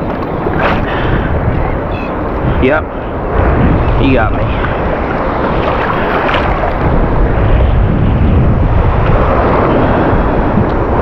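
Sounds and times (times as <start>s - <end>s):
surf waves sloshing: 0.0s - 11.0s
wind buffeting microphone: 0.0s - 11.0s.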